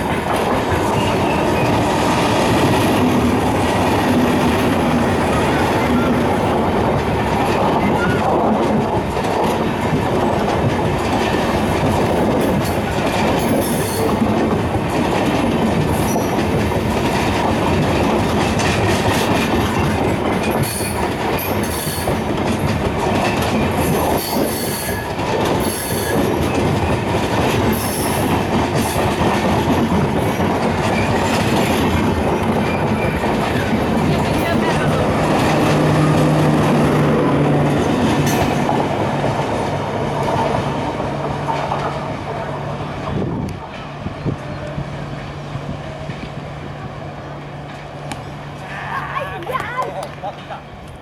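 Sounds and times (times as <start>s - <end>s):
wheels clattering over rail joints: 0.0s - 44.7s
train wheels rumbling on rails: 0.0s - 51.0s.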